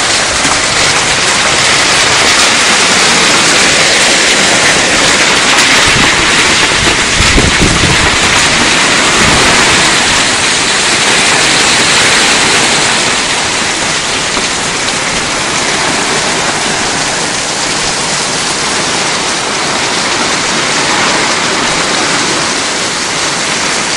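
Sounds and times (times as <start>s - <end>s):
low thunder rumble: 0.0s - 22.2s
heavy rain pouring: 0.0s - 23.9s.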